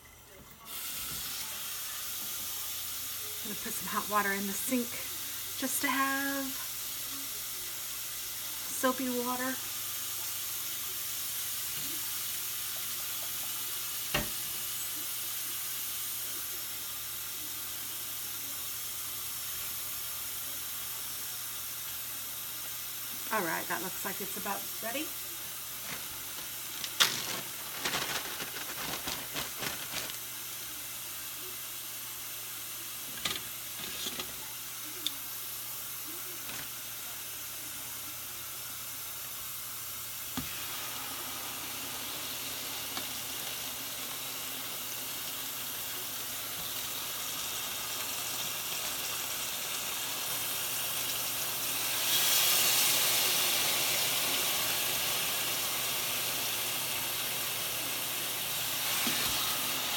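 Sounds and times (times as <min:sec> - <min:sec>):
chicken sizzling in a pan: 0:00.0 - 0:59.9
hot fat hissing in a skillet: 0:00.6 - 0:59.9.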